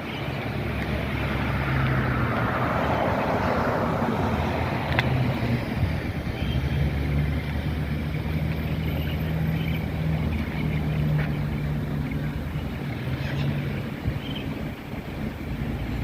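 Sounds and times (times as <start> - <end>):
faint wind rush: 0.0 - 16.0
low engine drone: 0.0 - 16.0.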